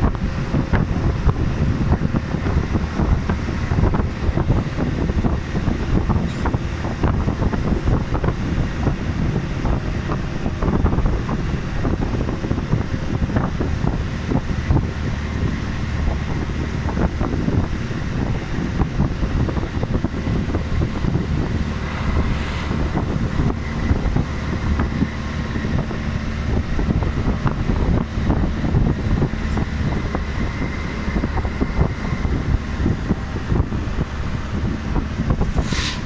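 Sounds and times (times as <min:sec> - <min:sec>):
van engine and road noise: 0:00.0 - 0:36.0
wind noise on microphone: 0:00.0 - 0:36.0.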